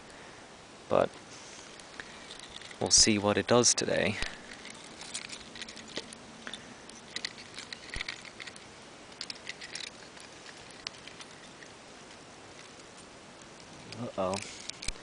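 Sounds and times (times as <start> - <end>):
faint hiss: 0.0 - 15.0
camera handling rustling and clicks: 1.6 - 2.9, 4.2 - 15.0.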